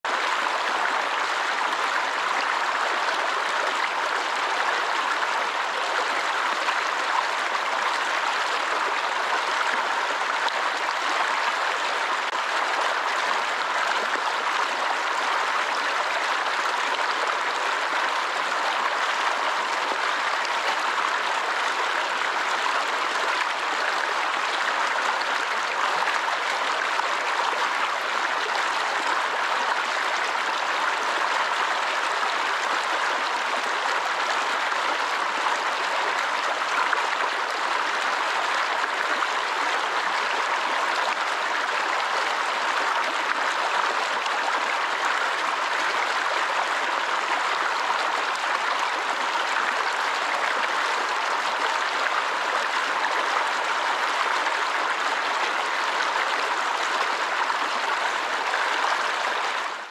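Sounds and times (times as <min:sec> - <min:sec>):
stream rushing over rocks: 0:00.1 - 0:59.9.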